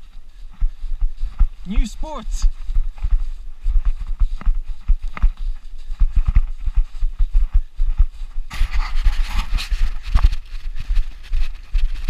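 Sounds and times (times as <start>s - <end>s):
running footsteps in snow: 0.0s - 12.0s.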